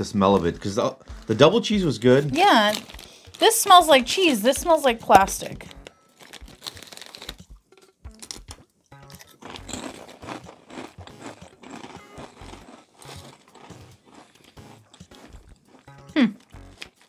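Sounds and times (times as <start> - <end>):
crunching crispy crackers: 0.0 - 3.9, 5.6 - 17.0.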